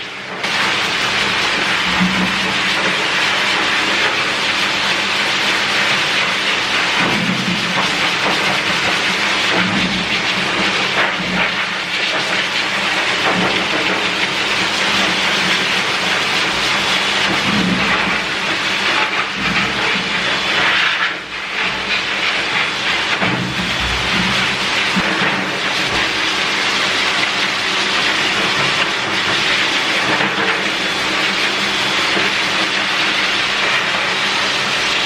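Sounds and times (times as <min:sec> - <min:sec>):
pet blower dryer running: 0:00.0 - 0:35.0.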